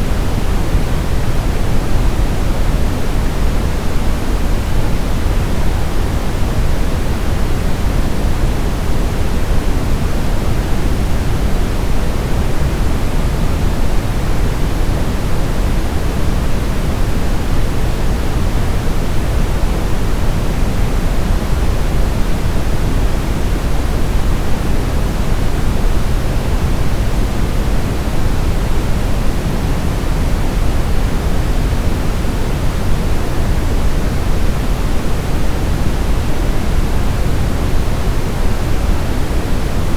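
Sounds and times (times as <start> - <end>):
low continuous noise hiss: 0.0 - 39.9.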